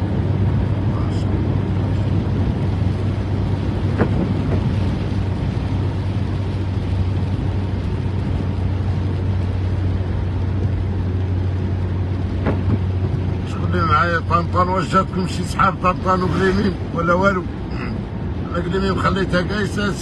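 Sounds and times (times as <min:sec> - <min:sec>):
car engine and tyres droning: 0:00.0 - 0:20.0.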